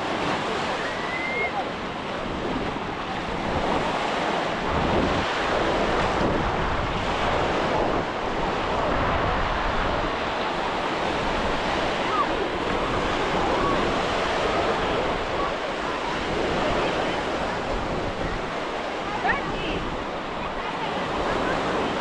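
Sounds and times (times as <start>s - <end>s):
ocean surf on beach: 0.0s - 22.0s
wind buffeting microphone: 0.0s - 22.0s.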